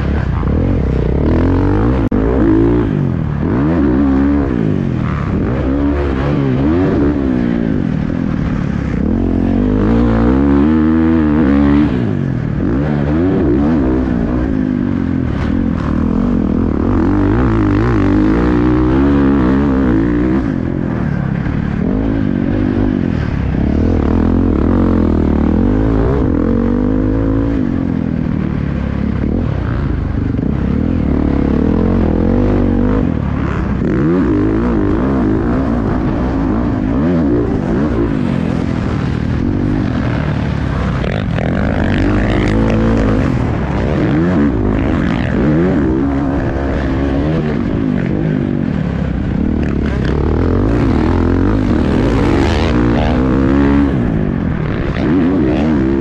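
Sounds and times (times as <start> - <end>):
motocross engine revving: 0.0 - 28.4, 29.1 - 56.0.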